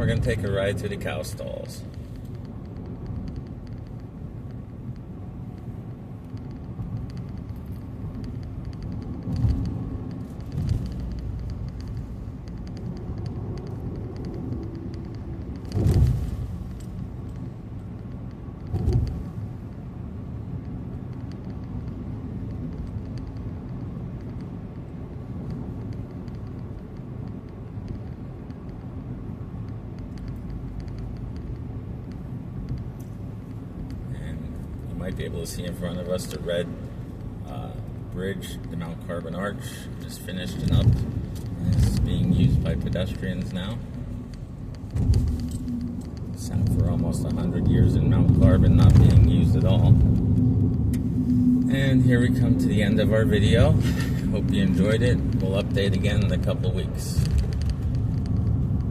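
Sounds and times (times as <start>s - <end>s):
car tyres and engine rumble: 0.0s - 58.9s.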